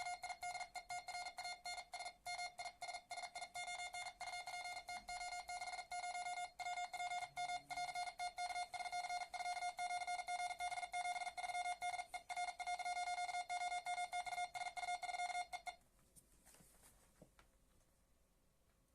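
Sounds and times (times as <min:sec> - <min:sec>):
morse code beeps: 0:00.0 - 0:15.8.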